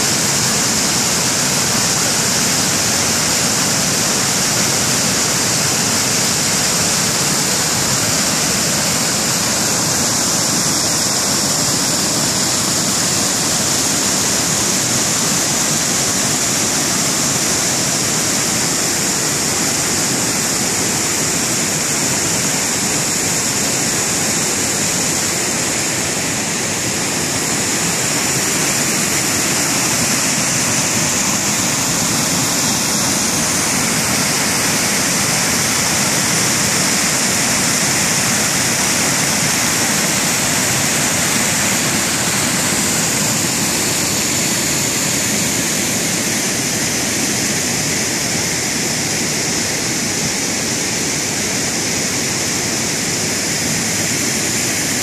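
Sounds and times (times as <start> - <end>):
creek rushing over rocks: 0.0 - 55.0.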